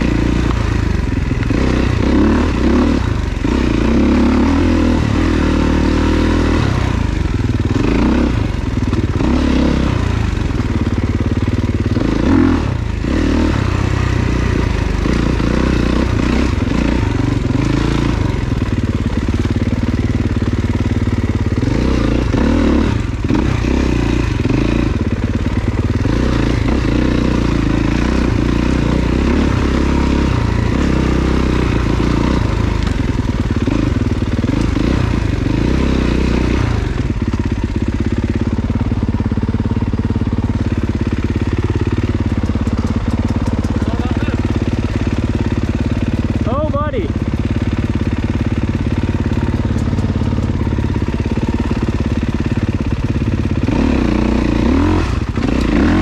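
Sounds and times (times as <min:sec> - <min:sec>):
dirt bike engine revving: 0:00.0 - 0:56.0
bike rattling and clatter: 0:07.1 - 0:56.0.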